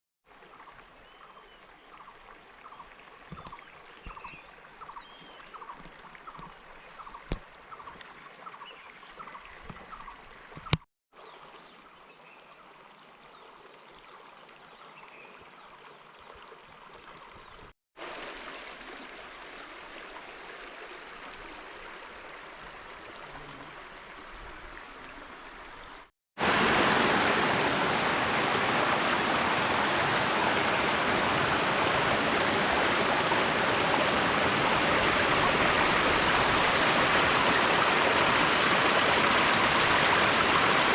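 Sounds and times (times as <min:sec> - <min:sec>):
flowing water: 0:00.2 - 0:40.9.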